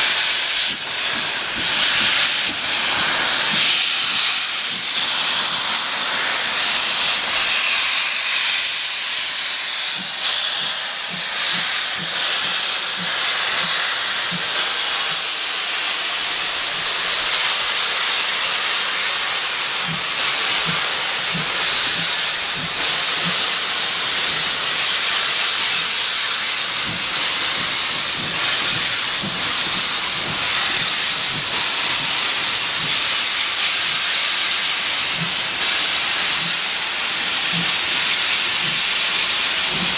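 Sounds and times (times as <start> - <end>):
steam locomotive hissing: 0.0 - 39.9.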